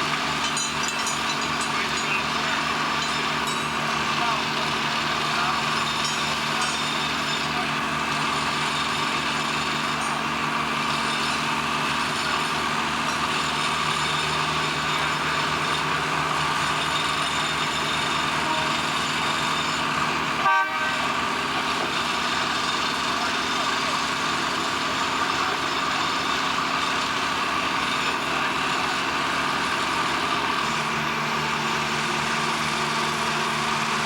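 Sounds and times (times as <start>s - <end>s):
machinery drone with hum tones: 0.0s - 34.0s.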